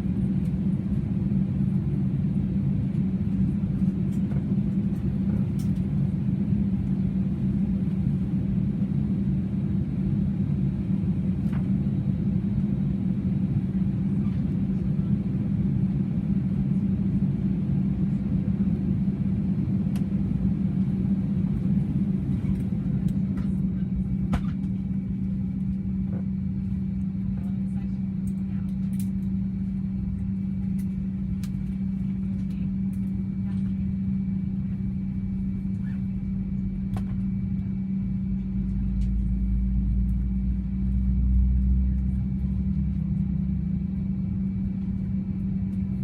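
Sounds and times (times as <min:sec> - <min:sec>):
airplane cabin hum: 0:00.0 - 0:46.0.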